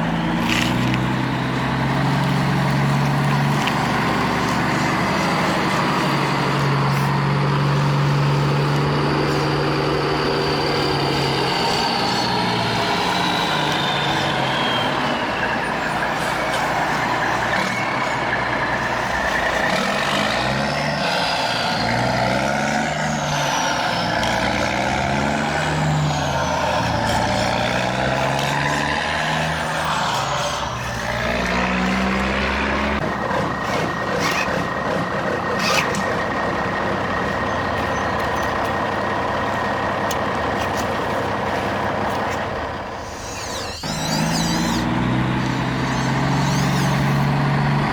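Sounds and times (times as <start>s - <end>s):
toy truck motors whining: 0.0s - 47.9s.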